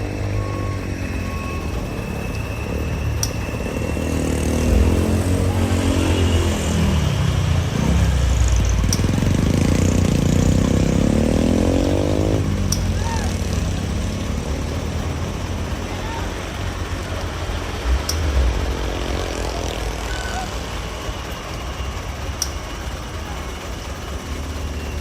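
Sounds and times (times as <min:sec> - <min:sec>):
steady low rumble: 0:00.0 - 0:25.0
truck engine labouring uphill: 0:00.0 - 0:25.0.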